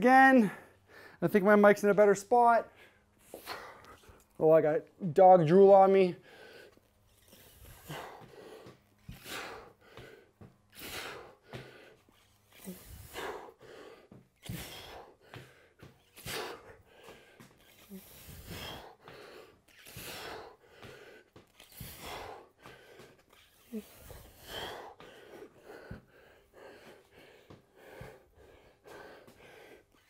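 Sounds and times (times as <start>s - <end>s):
man breathing hard: 0.4s - 1.2s, 2.7s - 4.4s, 6.2s - 30.0s.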